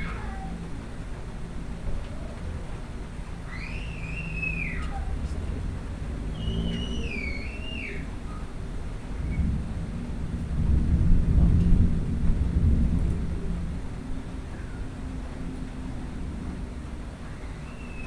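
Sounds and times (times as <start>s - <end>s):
low thunder roll: 0.0s - 18.0s.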